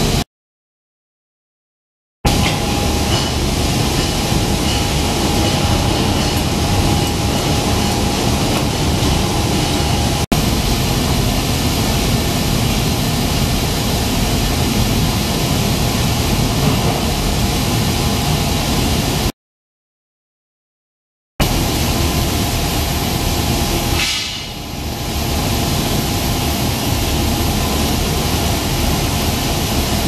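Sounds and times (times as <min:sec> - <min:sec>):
machinery rumble and hiss: 0:02.3 - 0:19.3, 0:21.4 - 0:30.0
thin steady machine whine: 0:02.3 - 0:19.3, 0:21.4 - 0:30.0.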